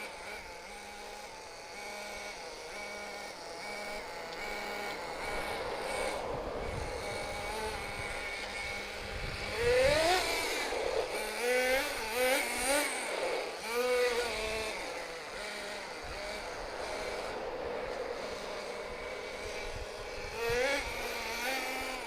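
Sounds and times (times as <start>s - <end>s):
model engine revving: 0.0s - 22.0s.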